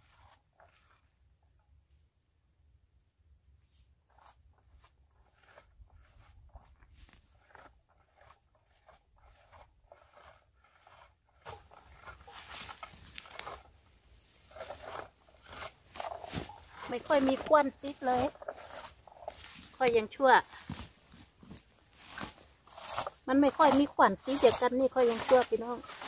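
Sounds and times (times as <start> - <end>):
berry picker rustling bushes: 3.8 - 26.0.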